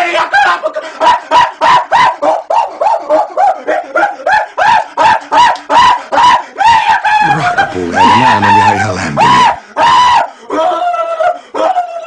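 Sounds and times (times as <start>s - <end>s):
high-pitched yelps: 0.4s - 12.0s.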